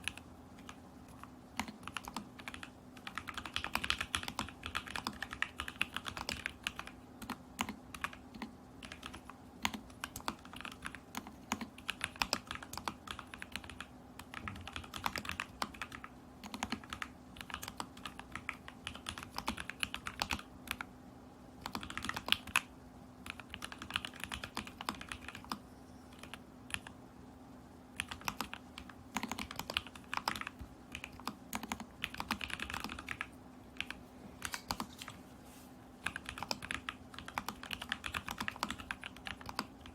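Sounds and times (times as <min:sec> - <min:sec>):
mechanical keyboard typing: 0:00.0 - 0:20.9, 0:21.6 - 0:27.0, 0:28.0 - 0:35.0, 0:36.0 - 0:39.9
faint steady hum: 0:00.0 - 0:39.9.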